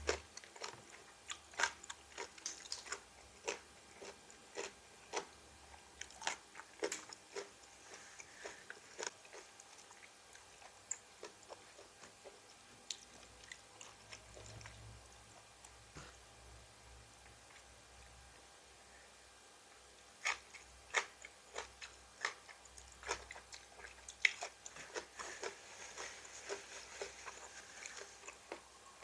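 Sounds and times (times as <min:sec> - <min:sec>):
person crunching raw vegetables: 0:00.0 - 0:14.7, 0:20.1 - 0:29.0.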